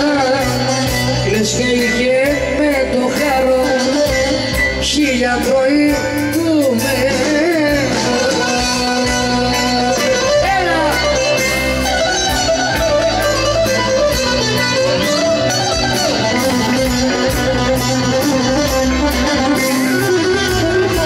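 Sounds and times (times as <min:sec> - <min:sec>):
live band playing instrumental: 0:00.0 - 0:21.0
plucked-string lead melody: 0:00.0 - 0:21.0.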